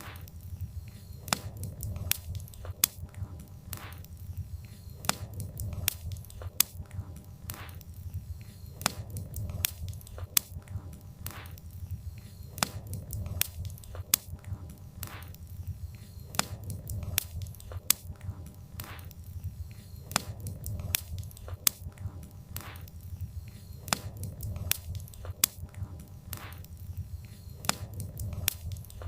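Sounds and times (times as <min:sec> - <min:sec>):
fire pops and snaps: 0:00.0 - 0:29.0
low rumble of burning logs: 0:00.0 - 0:29.0
wood fire crackling: 0:00.0 - 0:29.0.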